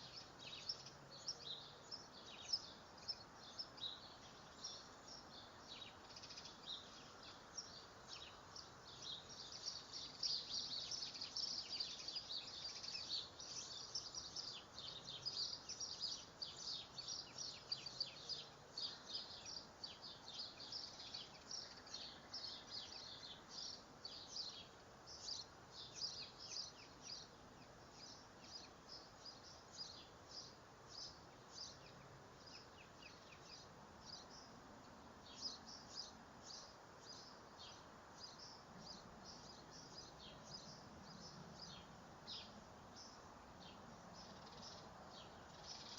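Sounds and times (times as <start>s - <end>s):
faint background hiss: 0.0s - 45.9s
songbirds chirping: 0.0s - 45.9s.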